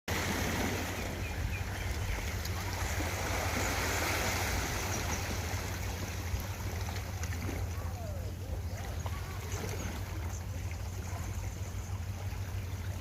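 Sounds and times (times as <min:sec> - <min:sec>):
rushing water: 0:00.1 - 0:13.0.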